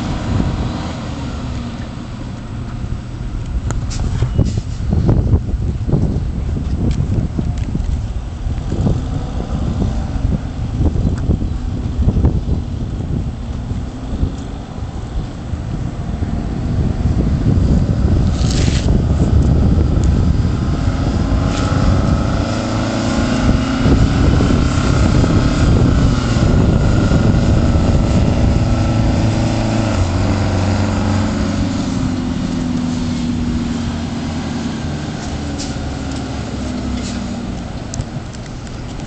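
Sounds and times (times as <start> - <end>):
diesel truck engine driving past: 0.0 - 6.6, 8.0 - 39.0.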